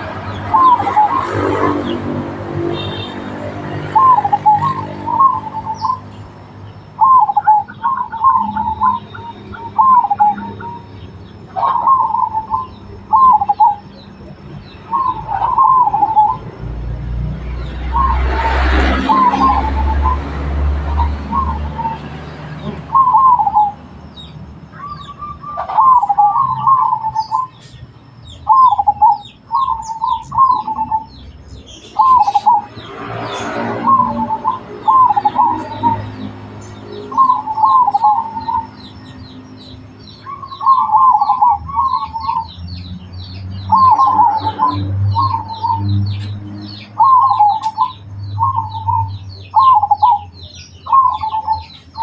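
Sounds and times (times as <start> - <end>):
dove cooing: 0.0 - 6.1, 7.0 - 14.1, 14.8 - 16.6, 17.8 - 23.8, 24.8 - 27.7, 28.4 - 31.3, 32.0 - 42.6, 43.7 - 52.0
small birds chirping: 0.0 - 52.0.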